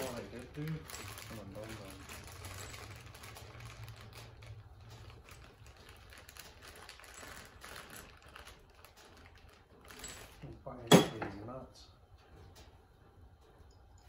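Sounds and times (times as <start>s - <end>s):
plastic bags rustling: 0.0s - 11.4s.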